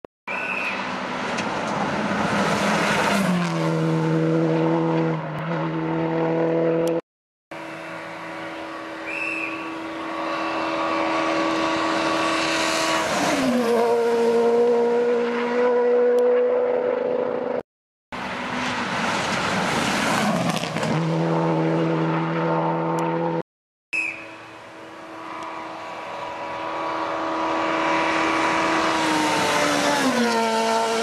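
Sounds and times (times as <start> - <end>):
rally car engines racing past: 0.6 - 7.0, 7.6 - 17.6, 18.2 - 23.4, 24.8 - 31.0.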